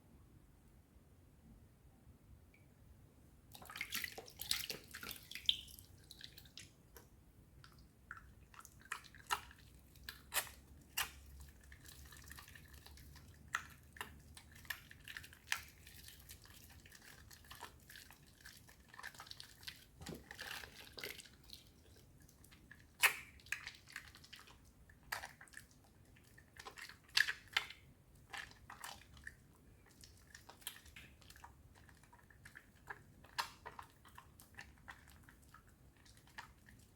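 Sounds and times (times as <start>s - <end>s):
soap lathering wet squelches: 3.5s - 36.9s.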